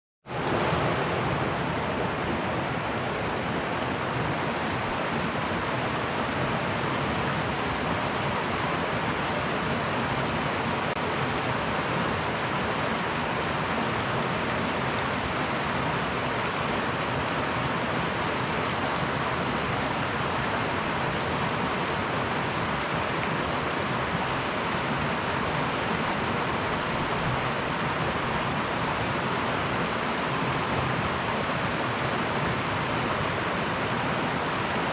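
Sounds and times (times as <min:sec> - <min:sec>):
river water rushing: 0:00.3 - 0:34.9.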